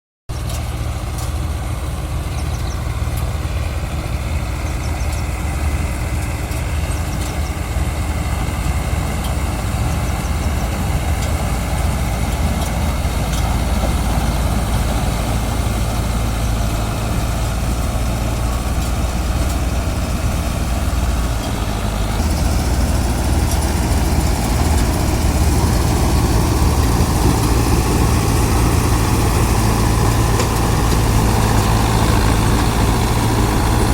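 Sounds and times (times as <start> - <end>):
harvester engine humming: 0.3 - 33.9.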